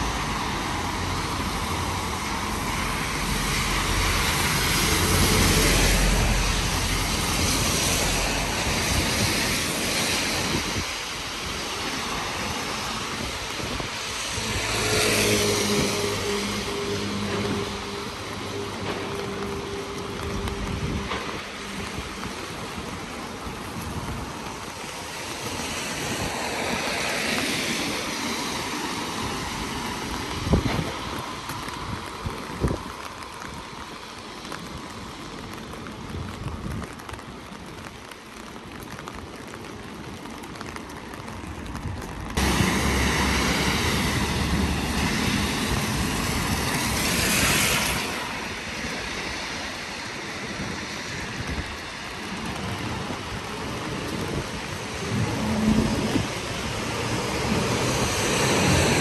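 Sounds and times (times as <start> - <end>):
car tyres on wet road: 0.0 - 59.0
rain falling on a street: 0.0 - 59.0.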